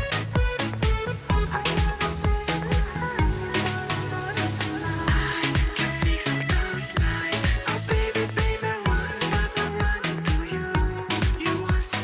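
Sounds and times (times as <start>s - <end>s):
steady kick drum: 0.0s - 3.9s, 5.1s - 12.0s.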